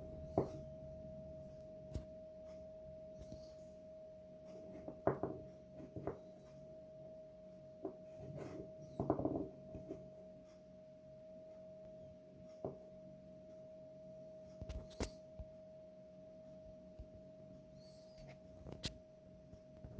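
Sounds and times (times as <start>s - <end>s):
faint high hum: 0.0s - 19.9s.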